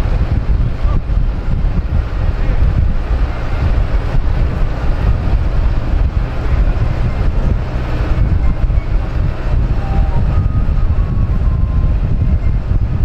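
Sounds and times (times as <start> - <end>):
vehicle low rumble: 0.0 - 13.0
wind buffeting microphone: 0.0 - 13.0.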